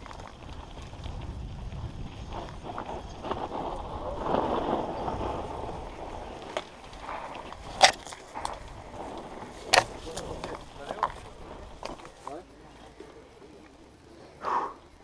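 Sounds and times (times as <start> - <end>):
sharp clacks from bike: 0.0 - 12.4
bike tyres crunching over dirt: 0.0 - 14.2.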